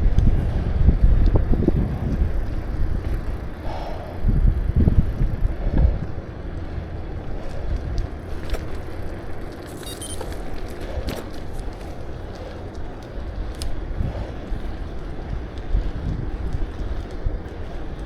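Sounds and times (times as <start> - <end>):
bicycle riding: 0.0 - 18.0
low road rumble: 0.0 - 18.0
wind buffeting microphone: 0.0 - 18.0.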